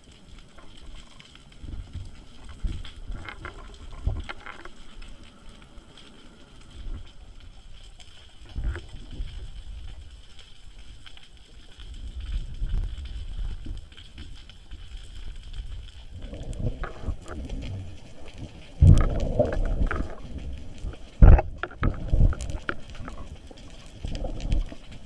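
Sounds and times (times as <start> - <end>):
low underwater rumble: 0.0 - 25.0
sharp underwater clicks: 0.0 - 25.0
water gushing: 0.0 - 25.0.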